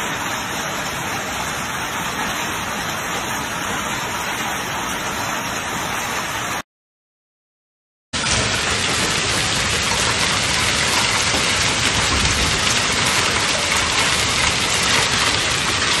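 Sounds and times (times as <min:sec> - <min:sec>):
heavy rain and hail on pavement: 0:00.0 - 0:06.6, 0:08.2 - 0:16.0.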